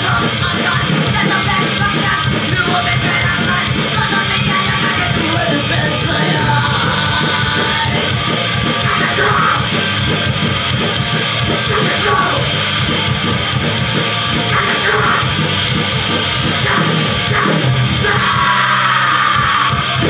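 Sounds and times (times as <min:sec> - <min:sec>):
distorted electric guitar: 0:00.0 - 0:20.0
punk band playing live: 0:00.0 - 0:20.0.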